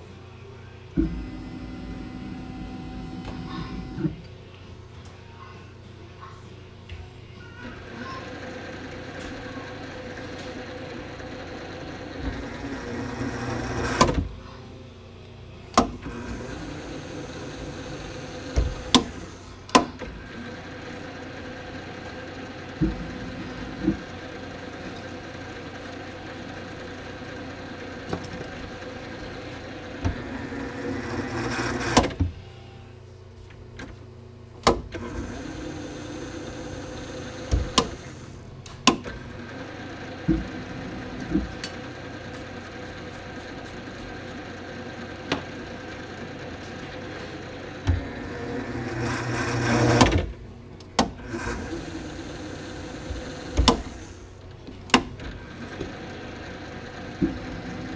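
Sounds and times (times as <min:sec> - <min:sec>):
milling machine motor whine: 0:00.8 - 0:04.3, 0:07.8 - 0:14.3, 0:16.0 - 0:33.1, 0:34.9 - 0:57.9.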